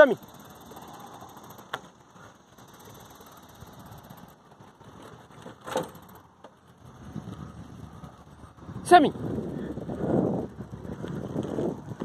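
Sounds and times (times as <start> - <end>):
low steady rumble: 0.2 - 12.0.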